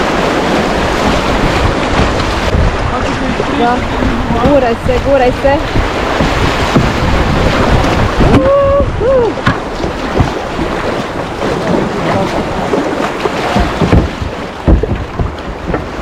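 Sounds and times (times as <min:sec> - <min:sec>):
river water splashing: 0:00.0 - 0:16.0
wind buffeting microphone: 0:00.0 - 0:16.0.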